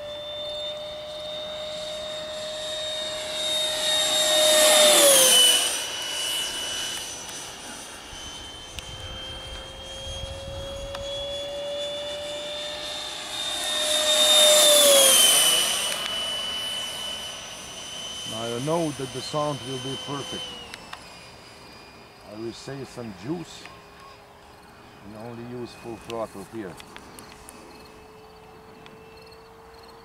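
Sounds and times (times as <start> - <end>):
rc jet fan whining fly-by: 0.0 - 30.0.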